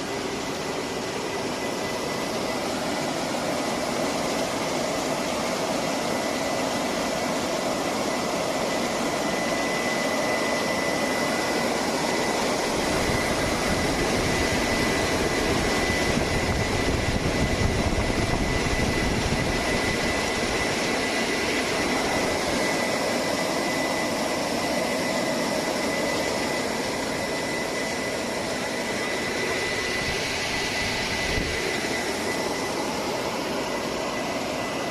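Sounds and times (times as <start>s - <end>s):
high steady whine: 0.0s - 34.9s
machine and water noise: 0.0s - 34.9s.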